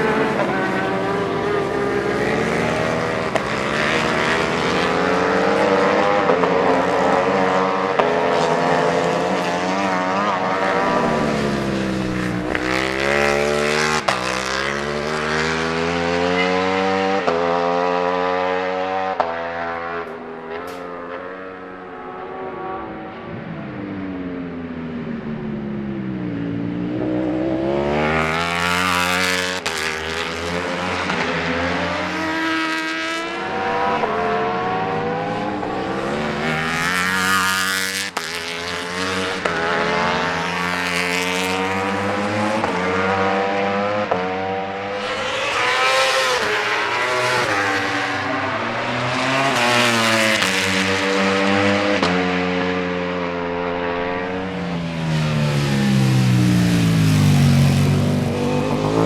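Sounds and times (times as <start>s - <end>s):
motorcycle engines passing at speed: 0.0s - 59.0s.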